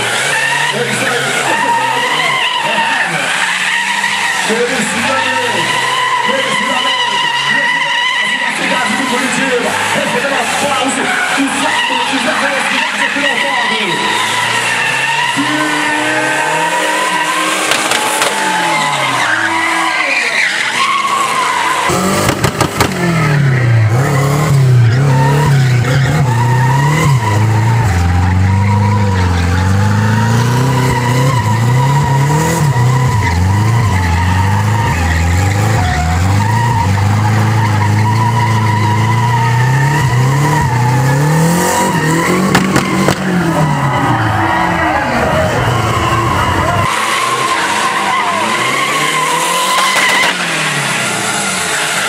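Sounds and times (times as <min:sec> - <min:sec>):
car engine revving hard: 0:00.0 - 0:52.0
tyres screeching: 0:00.0 - 0:52.0.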